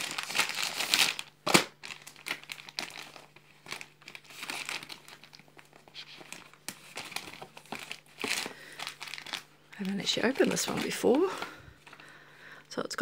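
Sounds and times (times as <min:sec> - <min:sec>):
plastic sleeve crinkling: 0:00.0 - 0:12.2.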